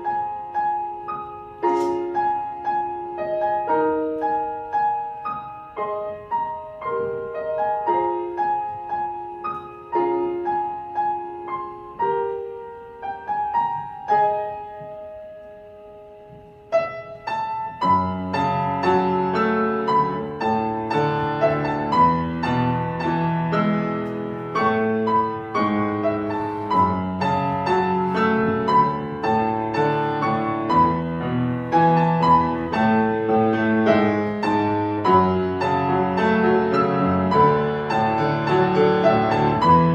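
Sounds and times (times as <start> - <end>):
gentle solo piano: 0.0 - 39.9.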